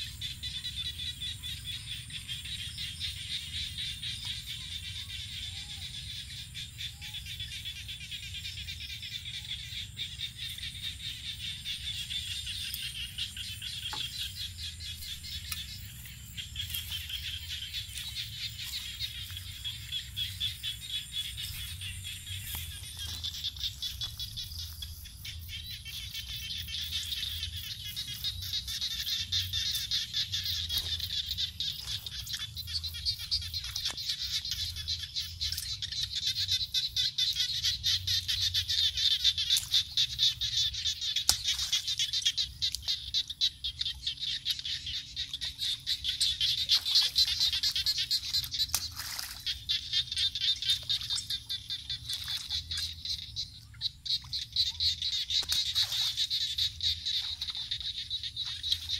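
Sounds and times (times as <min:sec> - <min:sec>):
frogs and insects trilling: 0:00.0 - 0:58.9.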